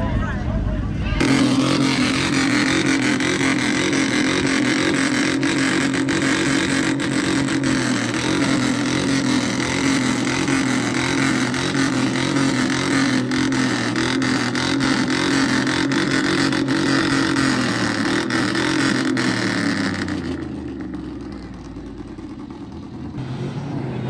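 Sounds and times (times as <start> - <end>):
vehicle engine droning: 0.0 - 24.0.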